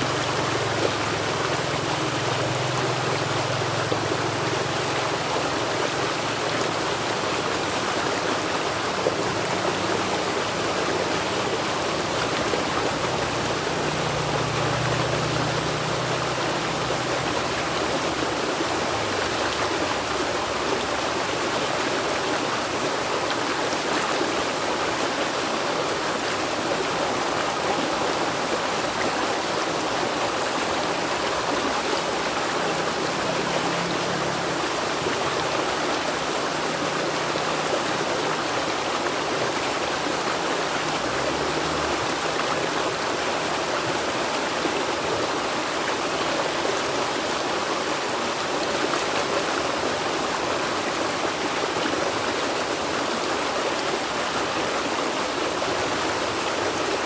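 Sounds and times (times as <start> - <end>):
river water flowing over rocks: 0.0 - 57.0.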